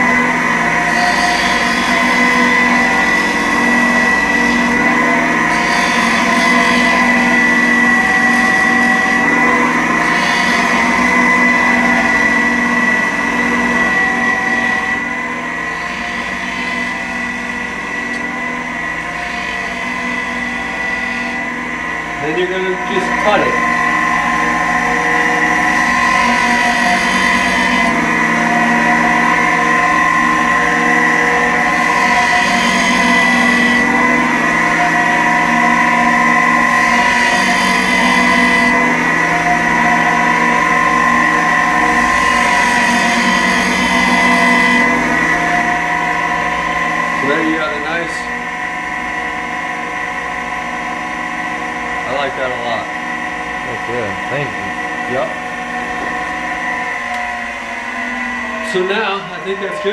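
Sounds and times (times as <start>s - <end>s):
electric sanding machine whining: 0.0s - 59.9s.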